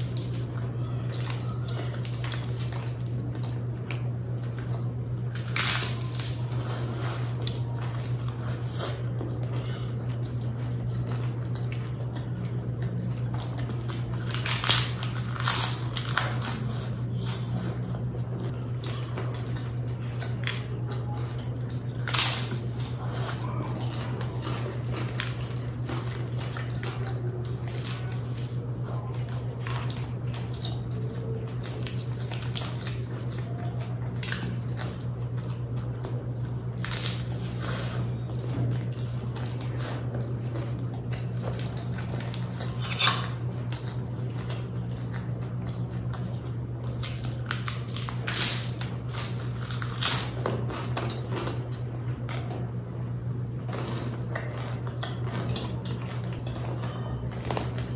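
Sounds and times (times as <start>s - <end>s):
person biting and chewing food: 0.0s - 57.9s
steady low hum: 0.0s - 57.9s.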